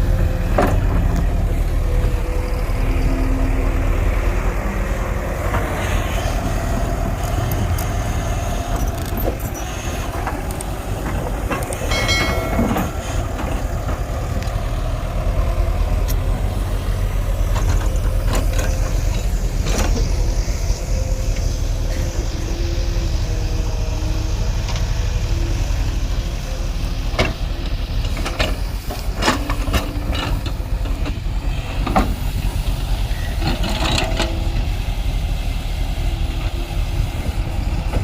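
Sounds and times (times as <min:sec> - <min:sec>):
diesel engine of heavy machinery: 0:00.0 - 0:38.0.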